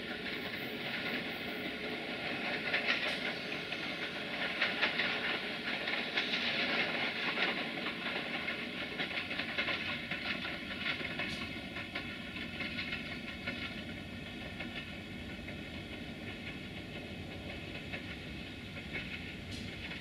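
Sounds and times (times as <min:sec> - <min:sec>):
train running noise: 0:00.0 - 0:20.0
wheels clicking over rail joints: 0:00.0 - 0:20.0.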